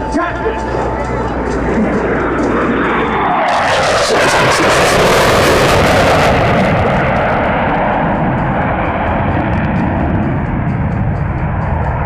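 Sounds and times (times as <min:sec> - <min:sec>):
jet roar: 0:00.0 - 0:12.0.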